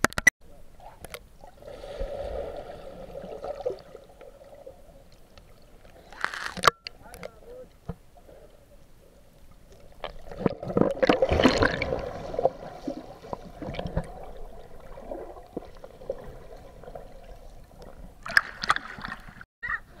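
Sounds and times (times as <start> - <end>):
water splashing and sloshing: 1.1 - 19.5.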